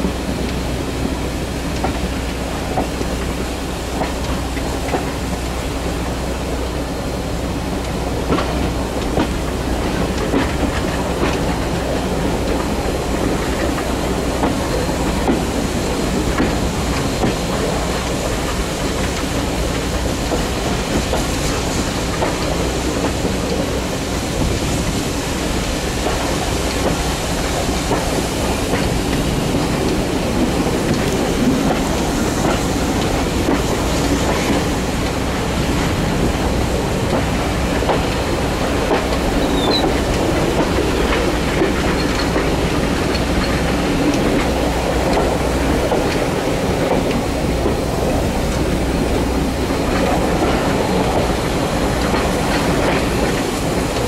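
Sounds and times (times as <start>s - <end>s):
train wheels rumbling and rattling: 0.0s - 54.0s
clicks at rail joints: 1.7s - 3.4s, 4.0s - 5.5s, 7.8s - 48.7s, 49.3s - 54.0s.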